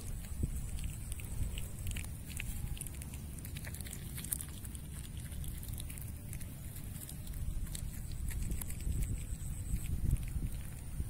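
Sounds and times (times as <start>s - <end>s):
low wind rumble: 0.0s - 11.0s.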